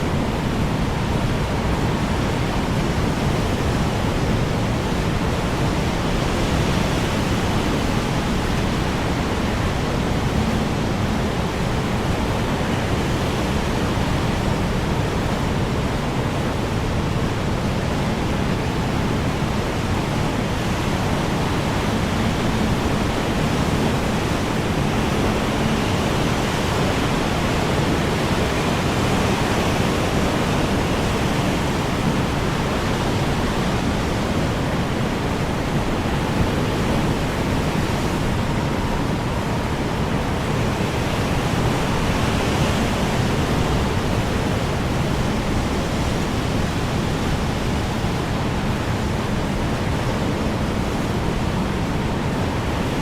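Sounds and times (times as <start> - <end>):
strong wind blowing: 0.0 - 53.0.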